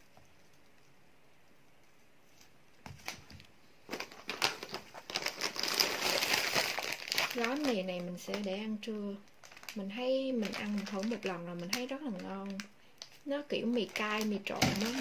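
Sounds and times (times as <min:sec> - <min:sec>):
plastic packaging crinkling: 0:02.9 - 0:15.0.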